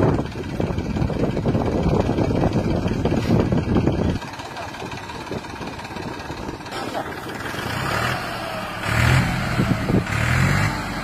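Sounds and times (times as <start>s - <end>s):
tractor and car engines running rough: 0.0s - 11.0s.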